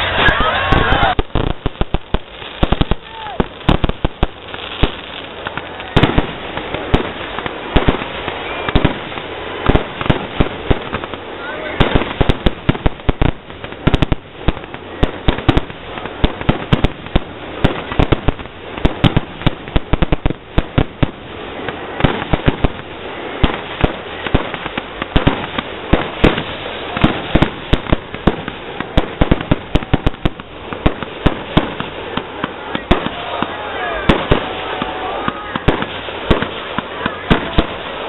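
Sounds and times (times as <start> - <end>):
fireworks bangs: 0.0 - 38.0
fireworks crackle: 0.0 - 38.0.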